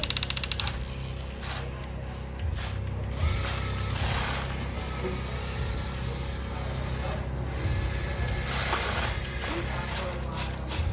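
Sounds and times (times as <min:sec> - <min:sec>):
small electric motors whirring: 0:00.0 - 0:10.9.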